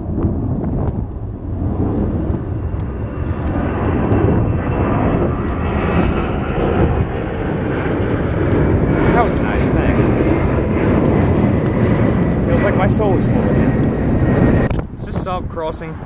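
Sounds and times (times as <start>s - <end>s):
jet engine hiss: 0.0s - 16.0s
jet engines rumbling: 0.0s - 16.0s.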